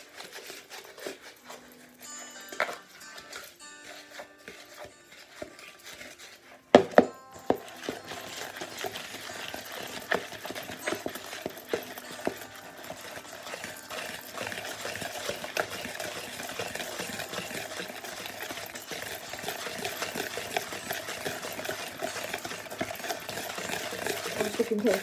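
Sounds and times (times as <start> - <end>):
whisk clicking against bowl: 2.5 - 25.0.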